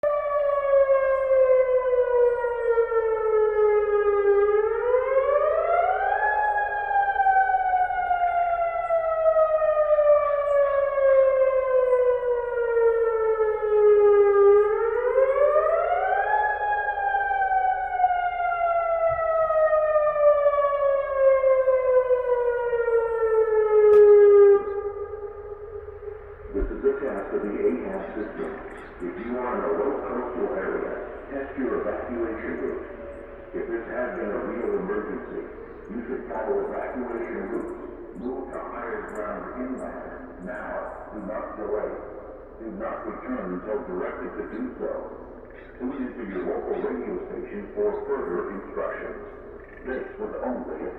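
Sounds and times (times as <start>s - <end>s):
warning siren wailing: 0.0s - 50.9s.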